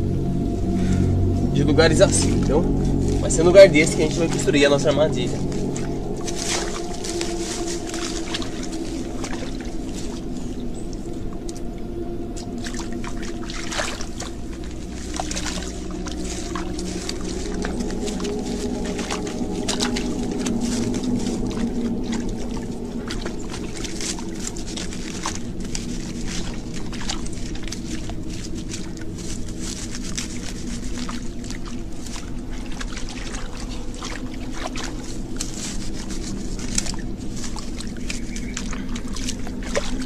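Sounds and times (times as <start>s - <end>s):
hands scooping wet mud: 0.0s - 40.0s
steady low hum: 0.0s - 40.0s
water splashing and sloshing: 0.0s - 40.0s.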